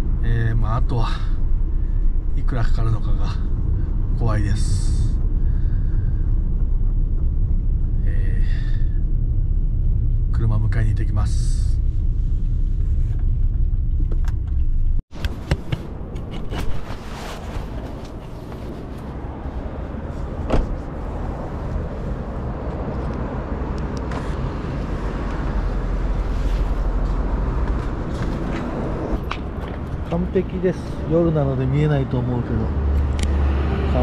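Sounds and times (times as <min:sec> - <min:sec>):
car rumble: 0:00.0 - 0:34.0.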